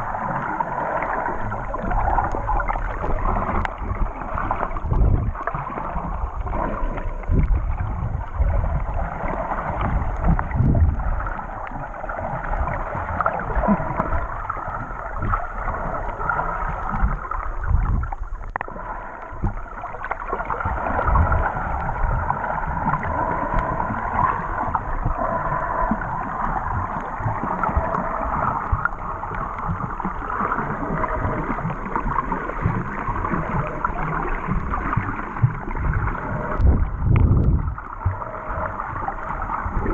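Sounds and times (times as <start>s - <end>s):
muffled water sloshing underwater: 0.0s - 39.9s.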